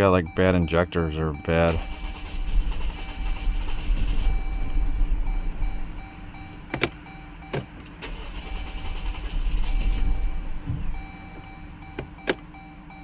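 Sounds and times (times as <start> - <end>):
car engine running unevenly: 0.0 - 13.0.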